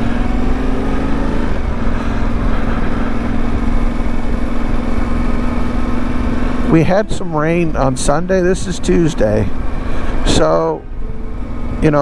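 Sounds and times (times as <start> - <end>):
motorcycle engine cruising: 0.0 - 12.0
road and wind noise: 0.0 - 12.0.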